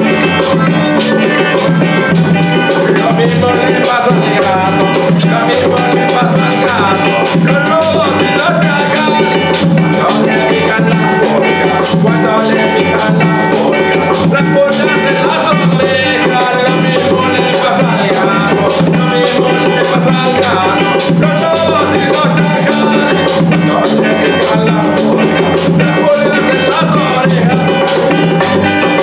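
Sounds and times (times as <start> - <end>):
acoustic guitar: 0.0 - 29.0
electric bass: 0.0 - 29.0
man singing: 0.0 - 29.0.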